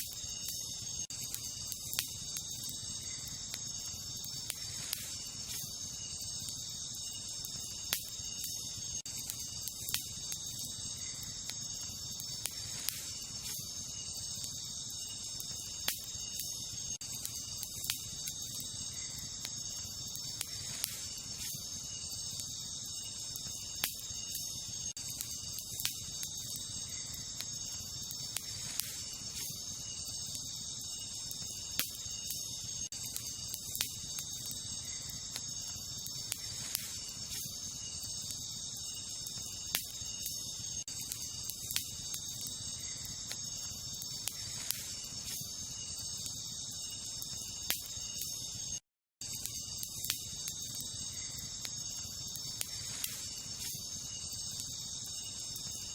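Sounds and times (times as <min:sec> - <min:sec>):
crickets chirping: 0:00.0 - 0:55.9
wood fire crackling: 0:00.0 - 0:55.9.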